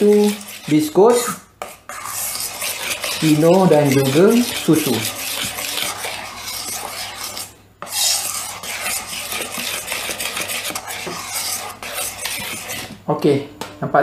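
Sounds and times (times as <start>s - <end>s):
spoon scraping a metal bowl: 0.0s - 13.0s.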